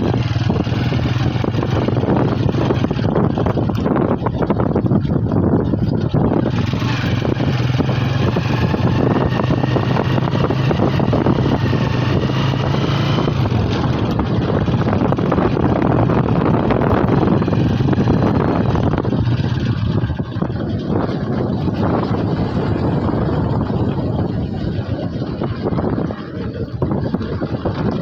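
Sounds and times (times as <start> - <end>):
low engine hum: 0.0 - 28.0
wind buffeting microphone: 0.0 - 28.0.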